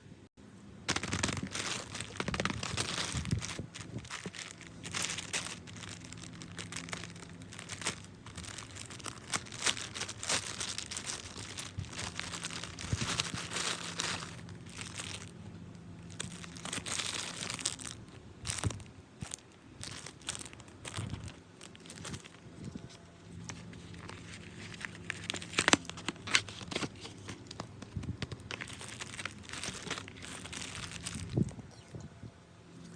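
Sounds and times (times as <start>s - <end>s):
plastic packaging crinkling and tearing: 0.9s - 32.0s.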